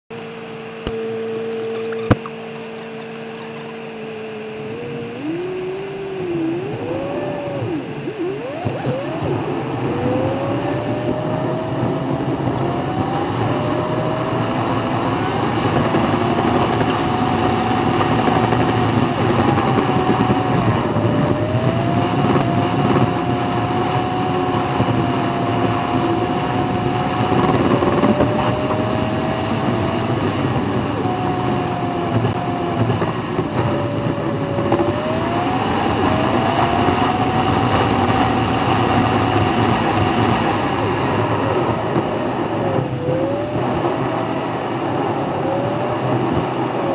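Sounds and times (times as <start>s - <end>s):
road and tyre noise: 0.1s - 46.9s
car engine idling and accelerating: 0.2s - 46.9s.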